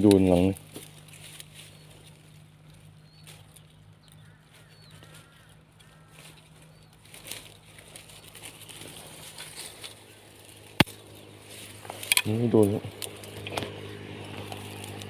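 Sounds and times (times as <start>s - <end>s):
rustling: 0.0s - 15.0s
small birds chirping: 0.0s - 15.0s
steady low hum: 0.0s - 15.0s.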